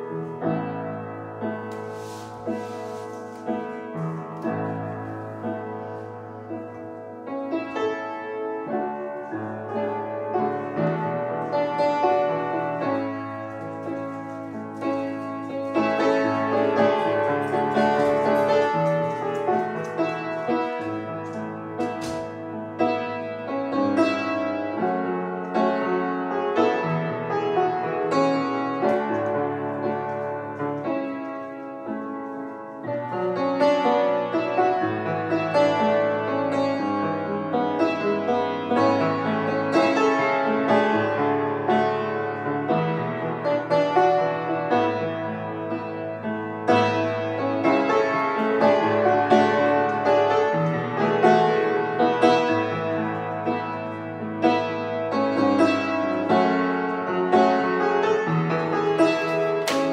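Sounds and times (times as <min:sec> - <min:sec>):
upright piano piece: 0:00.0 - 0:59.9.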